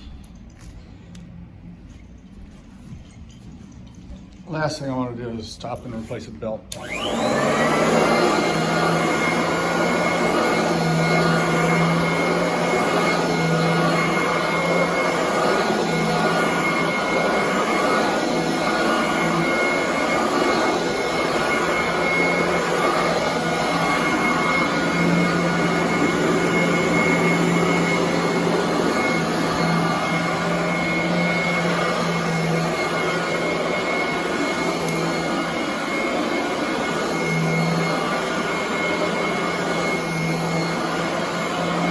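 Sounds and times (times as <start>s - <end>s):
vacuum cleaner running: 4.4s - 41.9s.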